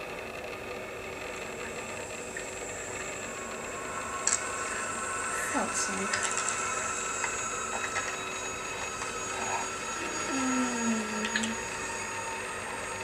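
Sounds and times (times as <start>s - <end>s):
mechanical drone: 0.0s - 13.0s
low falling moan: 1.8s - 13.0s.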